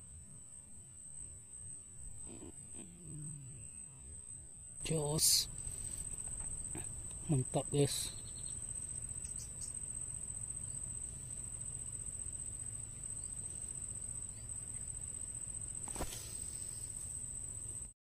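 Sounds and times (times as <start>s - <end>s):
low outdoor rumble: 0.0s - 17.9s
insects droning: 0.0s - 18.0s.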